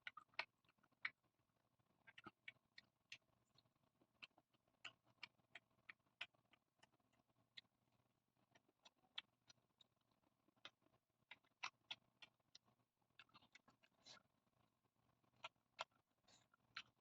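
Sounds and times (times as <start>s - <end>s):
wet chewing: 0.0s - 1.2s, 2.0s - 7.8s, 8.4s - 14.3s, 15.2s - 17.0s.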